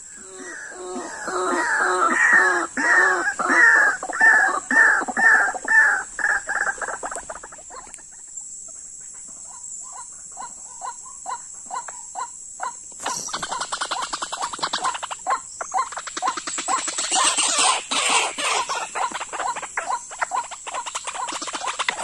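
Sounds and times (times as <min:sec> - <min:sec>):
waterhen croaking calls: 0:00.0 - 0:08.0, 0:10.0 - 0:22.0.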